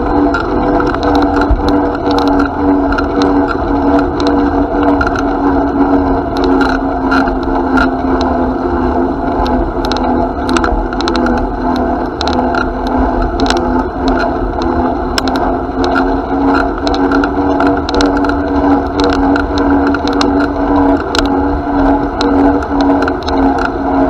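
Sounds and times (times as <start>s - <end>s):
bicycle clicks and rattles: 0.0s - 8.4s, 9.4s - 24.0s
bicycle riding noise: 0.0s - 24.0s.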